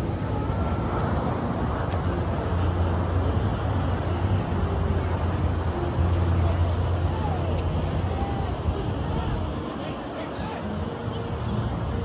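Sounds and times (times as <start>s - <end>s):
open-air rush: 0.0s - 12.0s
wind buffeting microphone: 0.0s - 12.0s.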